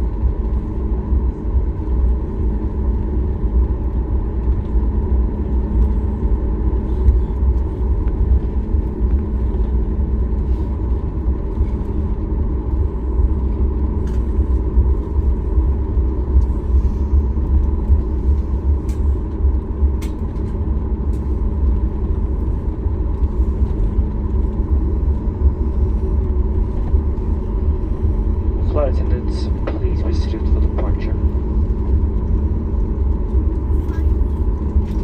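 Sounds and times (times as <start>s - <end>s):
airplane cabin engine rumble: 0.0s - 35.0s
constant hum: 0.0s - 35.0s.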